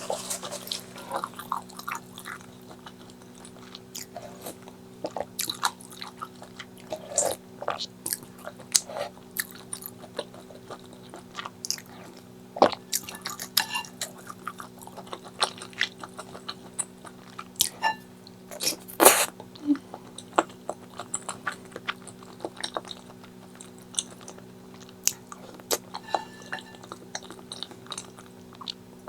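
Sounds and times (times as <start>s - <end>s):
chewing and crunching food: 0.0s - 29.0s
faint steady hum: 0.0s - 29.0s.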